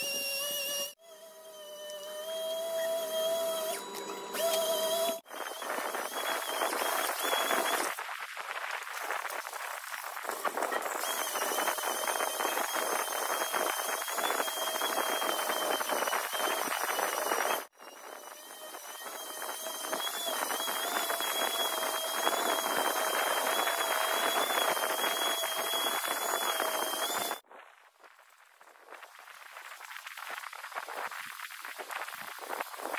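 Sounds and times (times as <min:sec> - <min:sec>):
thin wavering high whine: 0:00.0 - 0:27.4.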